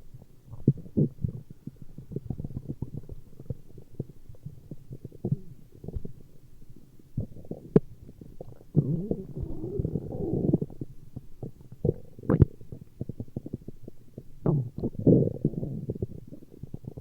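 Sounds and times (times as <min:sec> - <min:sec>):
stomach growling: 0:00.1 - 0:06.3, 0:07.1 - 0:17.0.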